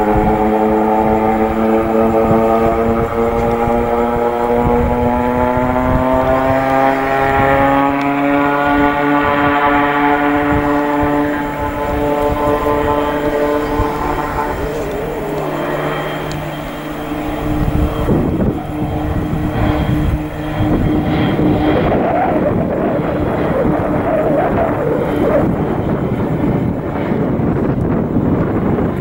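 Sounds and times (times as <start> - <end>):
turboprop engines drone: 0.0 - 29.0.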